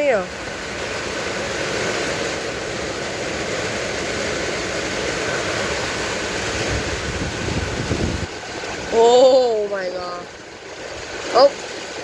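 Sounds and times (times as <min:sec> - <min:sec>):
heavy rain: 0:00.0 - 0:12.0
strong wind: 0:00.0 - 0:12.0.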